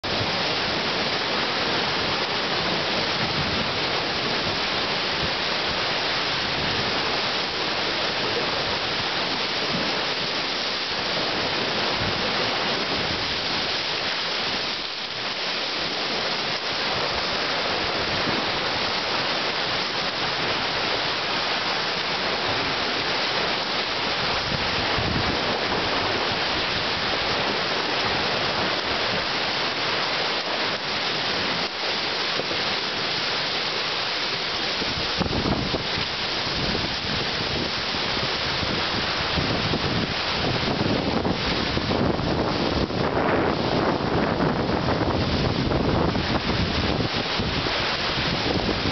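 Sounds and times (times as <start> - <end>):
rain: 0.0 - 48.9.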